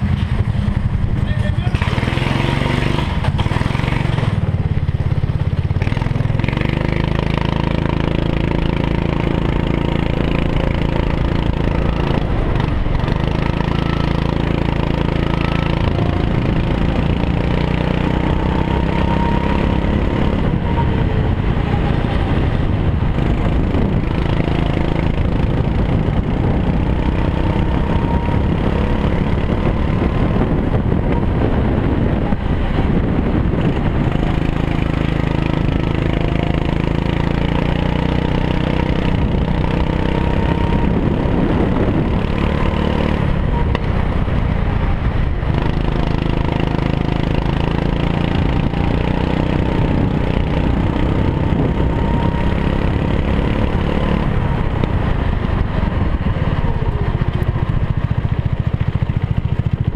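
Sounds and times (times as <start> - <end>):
go-kart engine running: 0.0 - 59.9.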